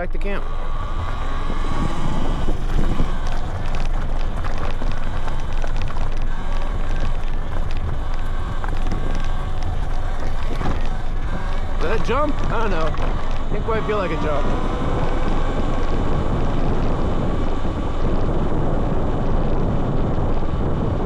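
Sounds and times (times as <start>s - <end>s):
electric motor whine: 0.0s - 21.0s
wind buffeting microphone: 0.0s - 21.0s.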